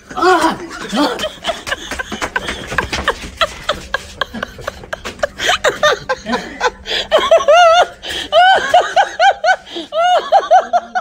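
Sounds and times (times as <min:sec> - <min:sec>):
people snickering and giggling: 0:00.1 - 0:11.0.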